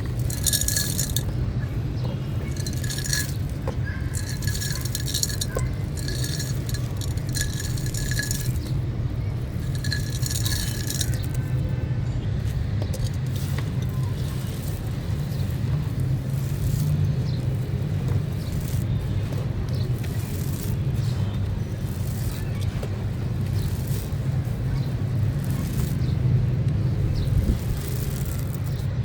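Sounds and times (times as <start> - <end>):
clay chunks crumbling: 2.4 - 11.7, 12.4 - 28.9.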